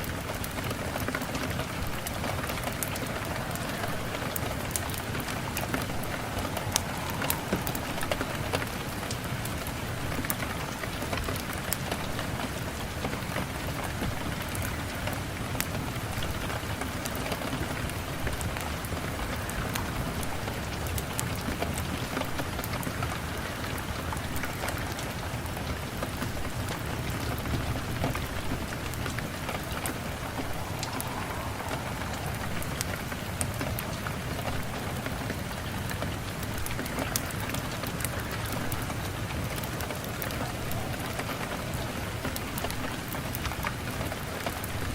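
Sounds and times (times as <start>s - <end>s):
wood fire crackling: 0.0s - 13.0s, 15.6s - 43.8s
steady rain falling: 0.0s - 44.9s.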